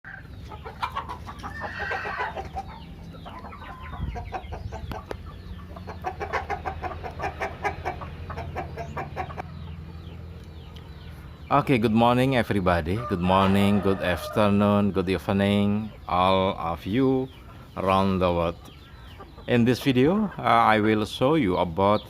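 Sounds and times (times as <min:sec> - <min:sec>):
chickens clucking: 0:00.1 - 0:22.0.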